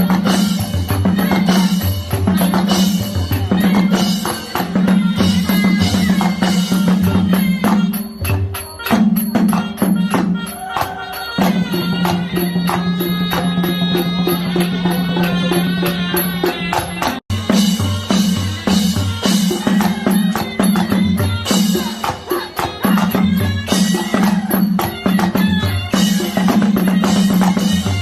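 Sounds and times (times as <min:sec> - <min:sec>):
drums beating a repeating pattern: 0:00.0 - 0:28.0
fast clicking percussion: 0:00.0 - 0:28.0.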